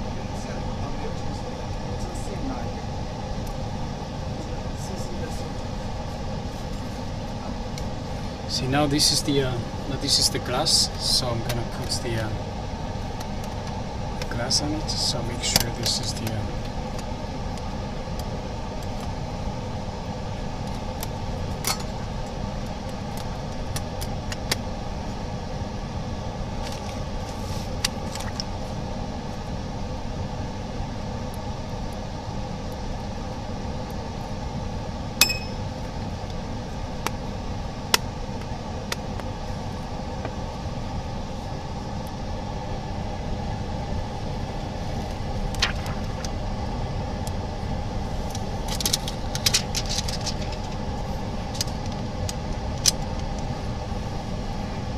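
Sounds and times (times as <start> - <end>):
low machine hum: 0.0 - 54.9.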